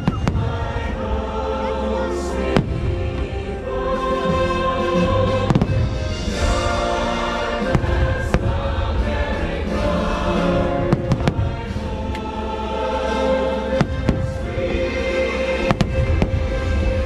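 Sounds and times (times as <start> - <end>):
music with a choir: 0.0 - 17.0.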